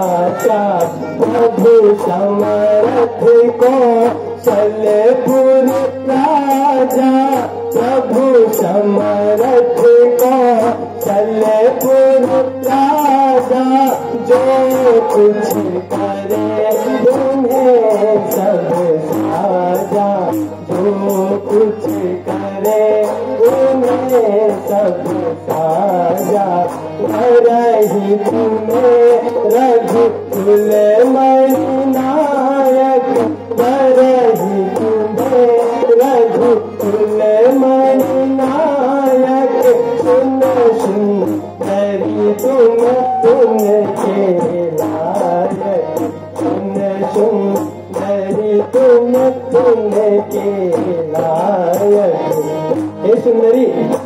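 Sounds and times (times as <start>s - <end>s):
instrumental accompaniment: 0.0s - 54.0s
person singing: 0.0s - 54.0s.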